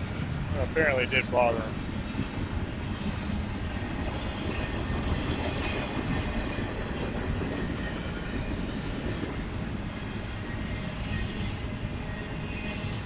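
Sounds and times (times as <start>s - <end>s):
train wheels on track: 0.0s - 13.0s.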